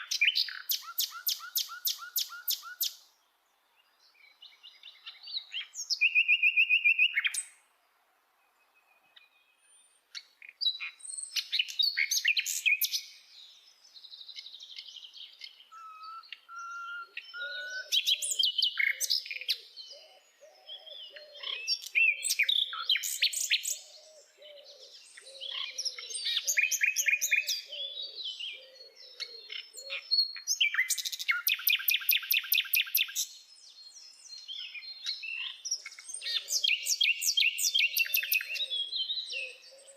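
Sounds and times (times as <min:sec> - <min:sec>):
nightingale singing: 0:00.0 - 0:07.7, 0:08.4 - 0:39.9.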